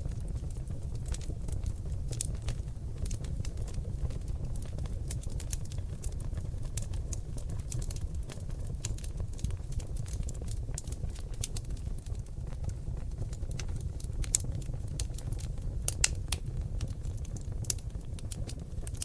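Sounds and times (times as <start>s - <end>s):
logs crackling and popping: 0.0s - 19.0s
low rumble of flame: 0.0s - 19.0s.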